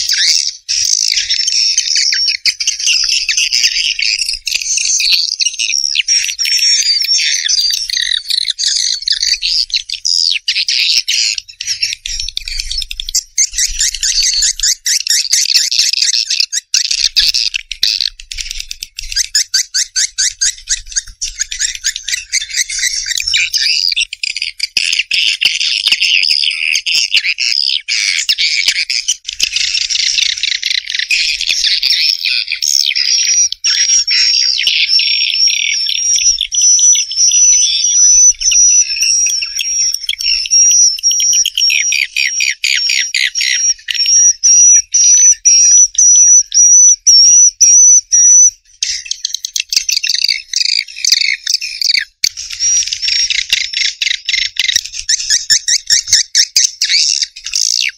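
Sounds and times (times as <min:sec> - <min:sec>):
swiftlets chirping and trilling: 0:00.0 - 0:27.2, 0:28.2 - 0:57.9.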